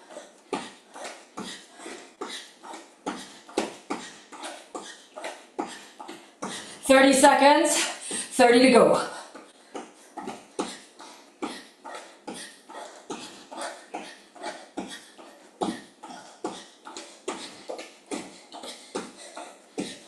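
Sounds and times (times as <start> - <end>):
person breathing hard: 0.0 - 6.9, 7.8 - 8.4, 9.0 - 20.0.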